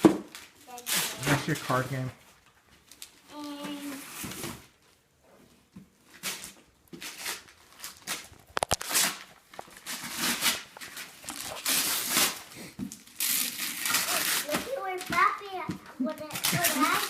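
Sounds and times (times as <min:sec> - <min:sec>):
wrapping paper rustling and tearing: 0:00.2 - 0:04.9, 0:06.0 - 0:15.4, 0:16.0 - 0:17.0.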